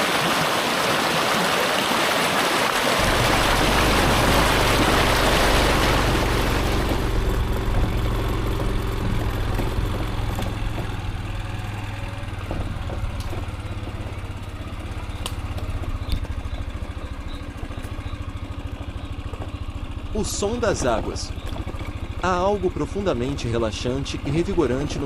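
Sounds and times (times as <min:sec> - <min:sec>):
motorcycle engine idling: 0:03.0 - 0:25.0.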